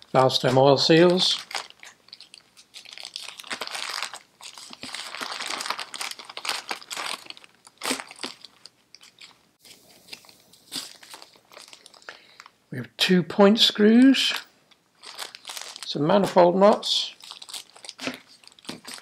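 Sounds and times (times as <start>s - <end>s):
plastic bags crinkling: 0.1s - 12.6s, 14.3s - 19.0s.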